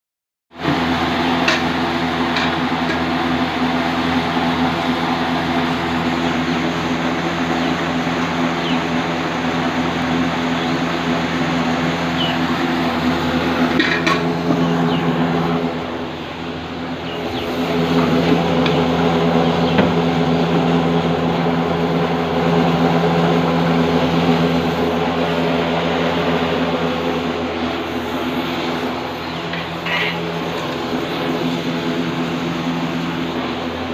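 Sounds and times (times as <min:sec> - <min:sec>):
fan motor humming: 0:00.5 - 0:33.9.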